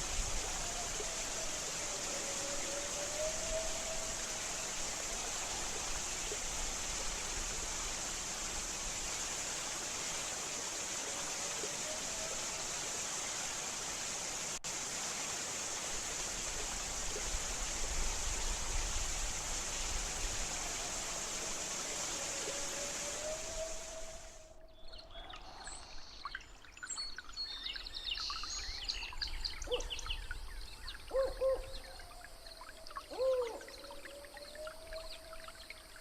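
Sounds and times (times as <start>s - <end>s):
rushing stream hiss: 0.0s - 24.6s, 25.7s - 36.0s.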